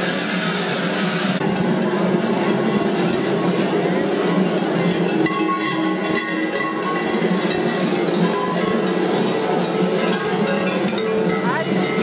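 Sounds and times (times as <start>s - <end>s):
large bells clanging: 1.4s - 12.0s.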